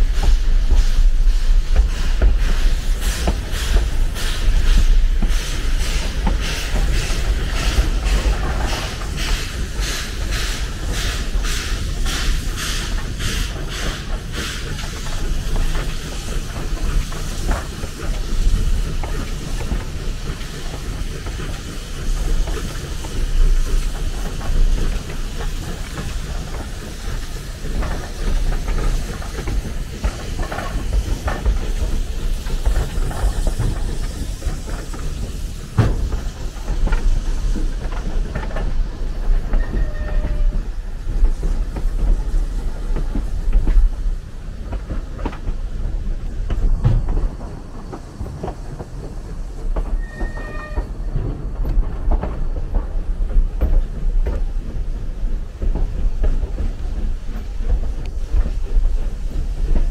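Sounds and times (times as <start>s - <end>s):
train rumbling along track: 0.0s - 59.9s
wheels clicking over rail joints: 0.1s - 59.9s.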